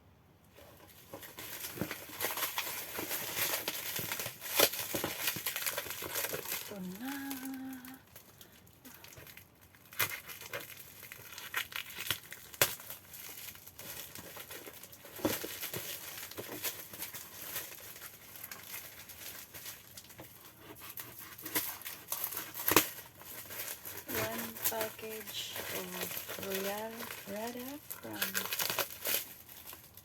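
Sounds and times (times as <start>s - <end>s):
package wrapping crinkling and tearing: 0.6s - 30.0s.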